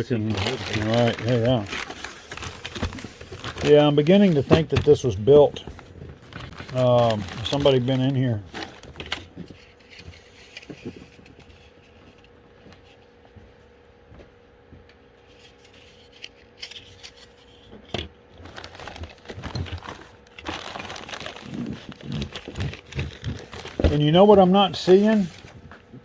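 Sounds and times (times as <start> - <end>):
packaging crinkling and rustling: 0.0 - 13.0, 15.3 - 26.0
faint steady hum: 0.0 - 26.0.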